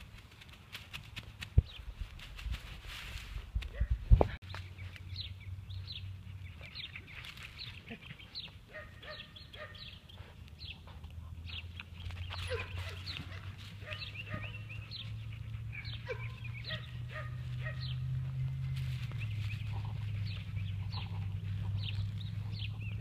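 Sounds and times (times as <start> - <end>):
small birds chirping: 4.4 - 23.0.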